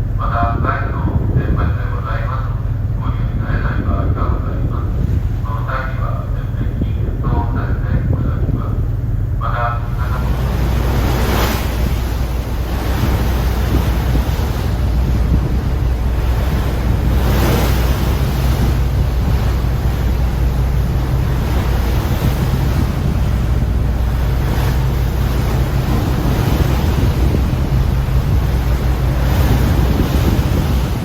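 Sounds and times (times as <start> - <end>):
ship engines droning: 0.0 - 31.0
wind buffeting microphone: 0.0 - 31.0
rushing water: 4.7 - 31.0.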